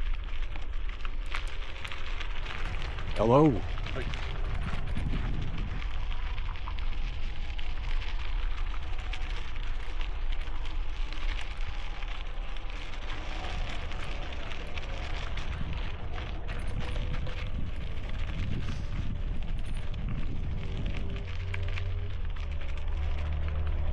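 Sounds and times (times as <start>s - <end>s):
bicycle tires rolling on gravel: 0.0s - 23.9s
wind buffeting microphone: 0.0s - 23.9s.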